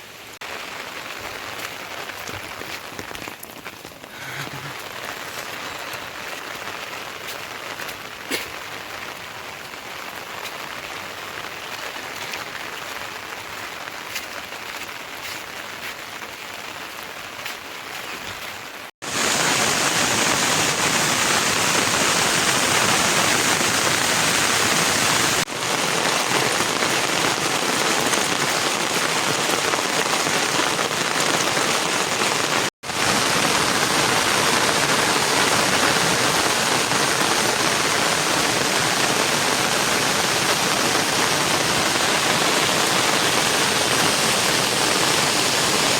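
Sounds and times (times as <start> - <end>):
heavy rain downpour hiss: 0.0 - 45.9
raindrops ticking on surfaces: 0.4 - 45.9.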